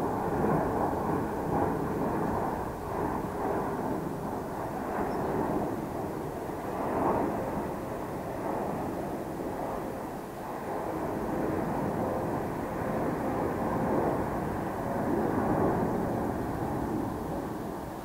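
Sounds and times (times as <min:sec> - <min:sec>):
jet engines rushing rumble: 0:00.0 - 0:18.0.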